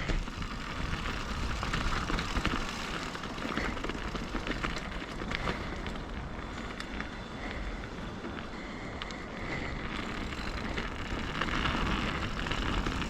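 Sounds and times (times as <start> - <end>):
bike clicking and rattling: 0.0 - 13.0
bike tyres rumbling over dirt: 0.0 - 13.0.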